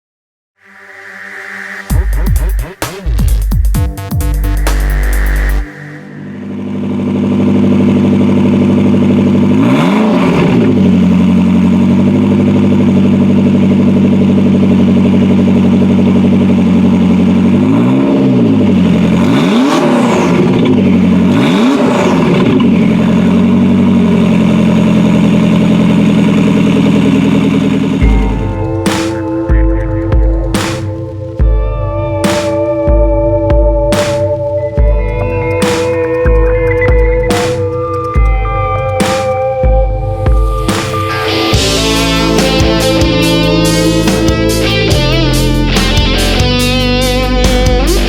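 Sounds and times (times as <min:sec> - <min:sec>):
car engine idling and revving: 0:01.9 - 0:48.0.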